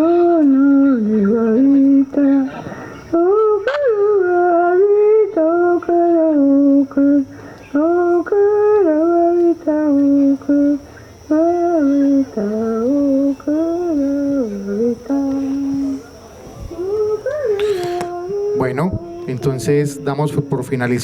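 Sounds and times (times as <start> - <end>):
person humming a slow melody: 0.0 - 20.6.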